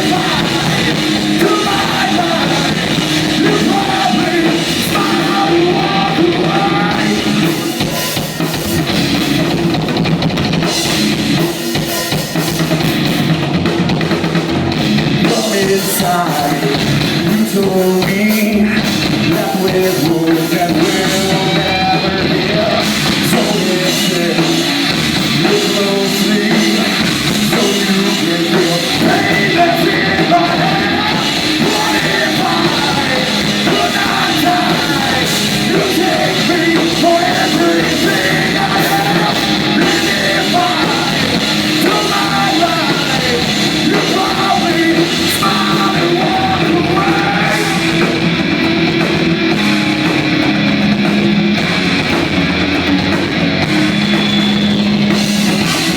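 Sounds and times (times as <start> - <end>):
heavy rock band playing: 0.0 - 55.9.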